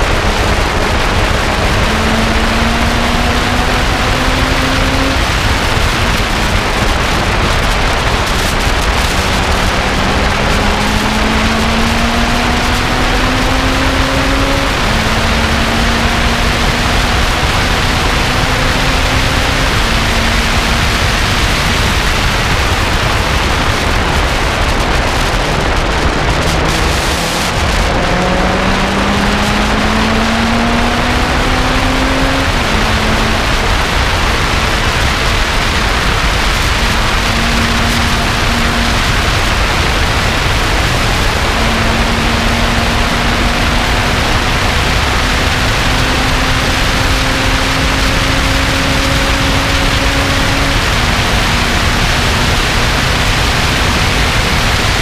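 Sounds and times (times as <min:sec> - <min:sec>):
car engine accelerating: 0:00.0 - 0:55.0
wind and road noise: 0:00.0 - 0:55.0.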